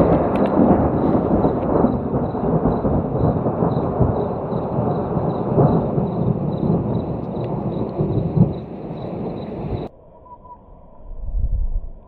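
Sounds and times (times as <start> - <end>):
thunder rumbling: 0.0 - 9.9.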